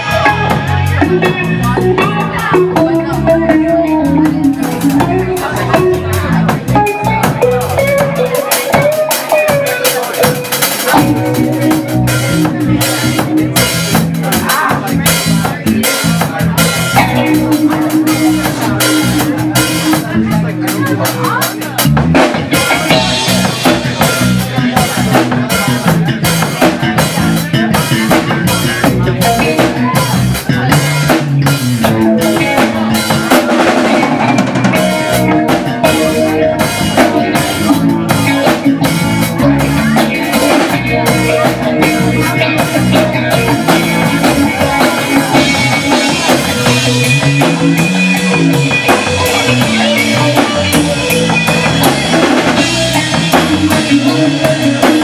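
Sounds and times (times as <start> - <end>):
drum kit beat: 0.0 - 55.0
electric bass: 0.0 - 55.0
electric guitar: 0.0 - 55.0.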